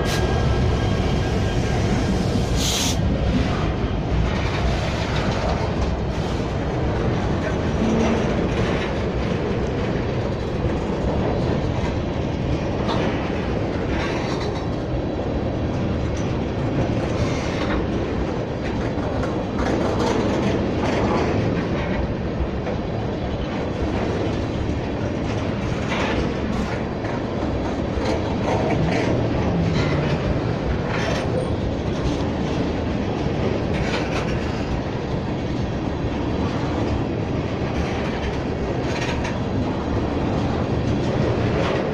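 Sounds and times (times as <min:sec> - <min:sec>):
train wheels rumbling on rail: 0:00.0 - 0:41.9
wheels clacking over rail joints: 0:00.0 - 0:41.9.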